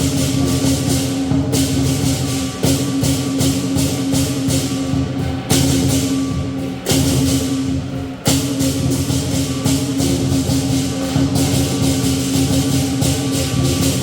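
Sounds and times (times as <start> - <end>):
cymbals: 0.0 - 14.0
drum: 0.0 - 14.0
gong: 0.0 - 14.0.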